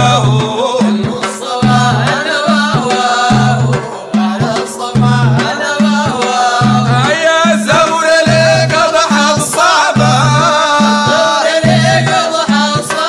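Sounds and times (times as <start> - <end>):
men chanting a melody: 0.0 - 13.0
steady drum beat: 0.0 - 13.0.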